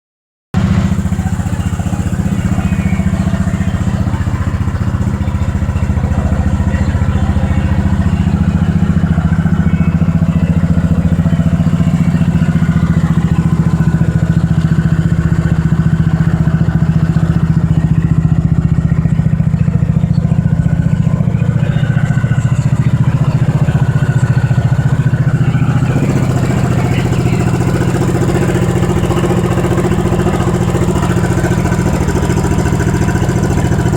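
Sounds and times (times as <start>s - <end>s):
motorcycle engine running: 0.6s - 33.9s.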